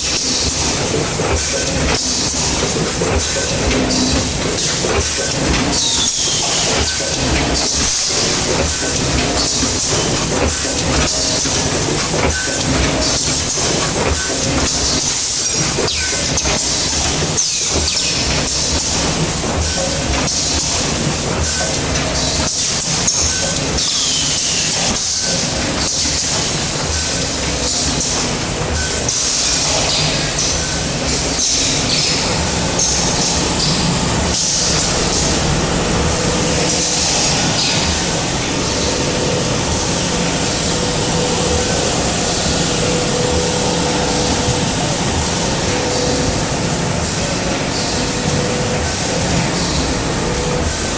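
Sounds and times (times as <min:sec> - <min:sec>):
machine clicks and clatter: 0:00.0 - 0:50.9.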